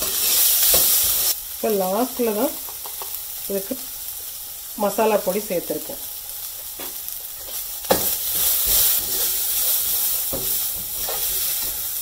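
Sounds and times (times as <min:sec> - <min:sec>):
light sizzle: 0:00.0 - 0:12.0.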